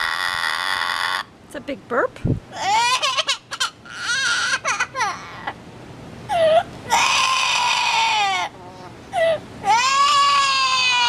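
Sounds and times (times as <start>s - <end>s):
parrot wavering calls: 0.0s - 1.3s, 2.6s - 5.6s, 6.3s - 11.0s.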